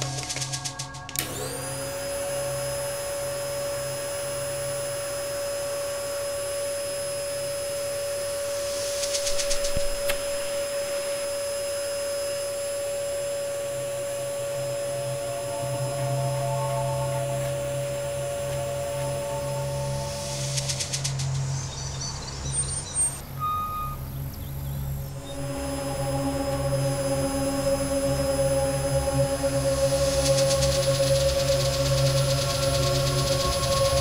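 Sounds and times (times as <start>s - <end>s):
vacuum cleaner motor whine: 0.0s - 34.0s.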